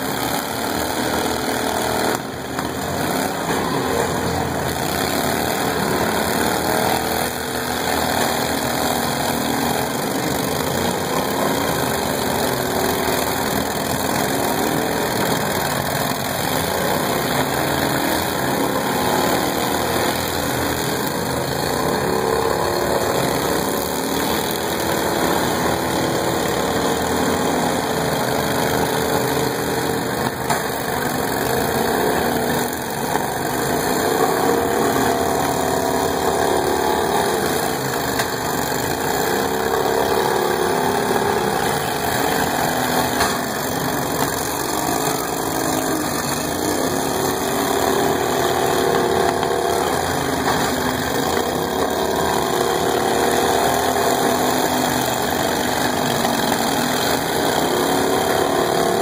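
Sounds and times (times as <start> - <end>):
riding lawn mower engines: 0.0 - 59.0.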